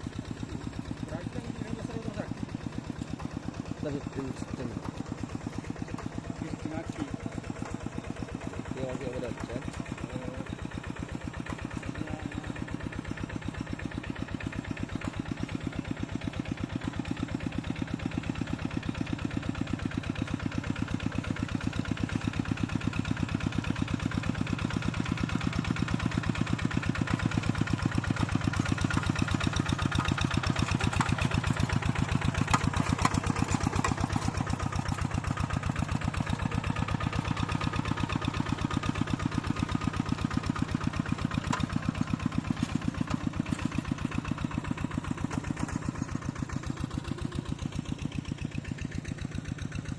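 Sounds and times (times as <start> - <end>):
tractor engine chugging: 0.0 - 49.9.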